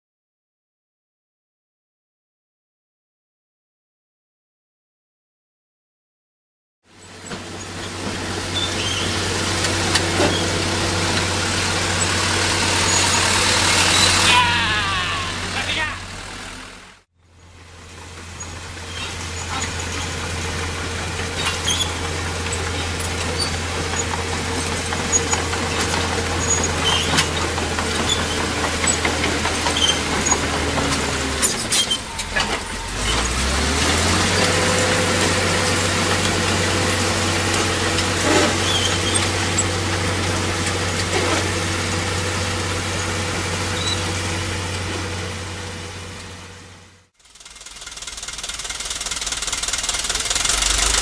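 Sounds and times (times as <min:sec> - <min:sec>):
diesel machinery engine running: 0:06.9 - 0:51.0.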